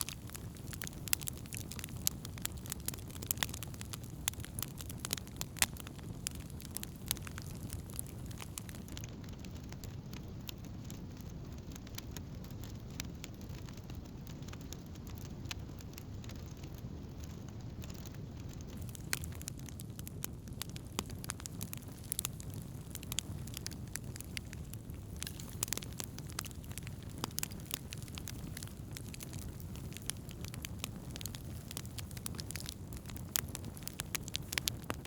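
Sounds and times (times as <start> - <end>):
campfire crackling and popping: 0.0 - 35.0
low fire rumble: 0.0 - 35.0.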